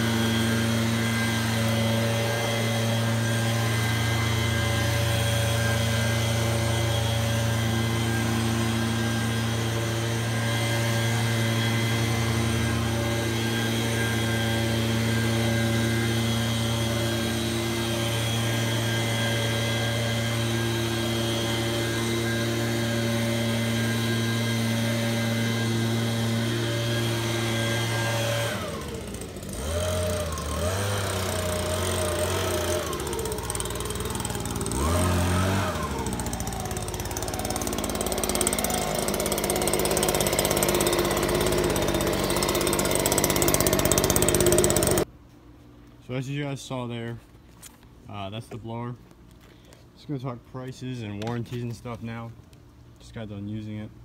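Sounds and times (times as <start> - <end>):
leaf blower engine running: 0.0 - 45.1.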